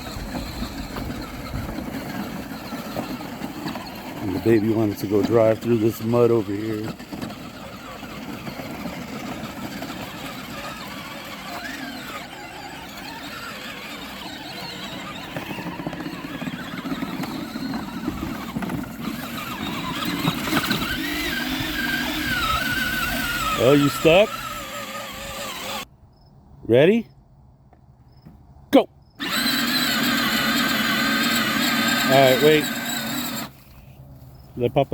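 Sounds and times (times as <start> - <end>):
toy truck electric motor whining: 0.0 - 25.9, 29.2 - 34.0.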